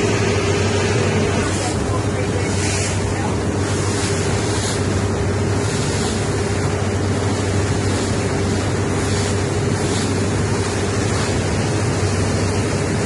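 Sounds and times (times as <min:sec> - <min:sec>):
boat engine droning: 0:00.0 - 0:13.0
water rushing past hull: 0:00.0 - 0:13.0.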